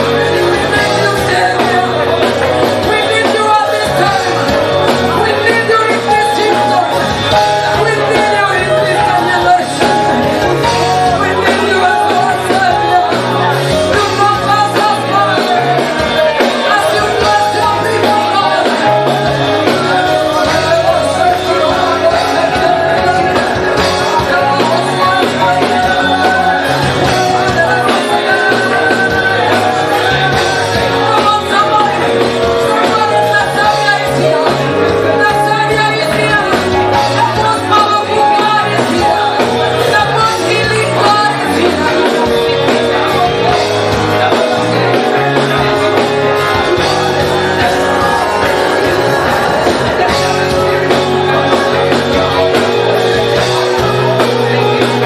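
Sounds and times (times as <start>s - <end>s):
full band playing: 0.0s - 55.0s
voices singing worship music: 0.0s - 55.0s.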